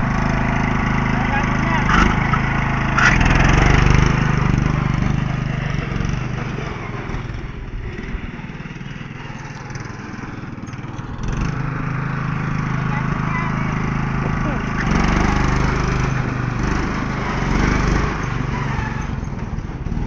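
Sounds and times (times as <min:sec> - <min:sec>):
riding lawn mower engine: 0:00.0 - 0:20.0.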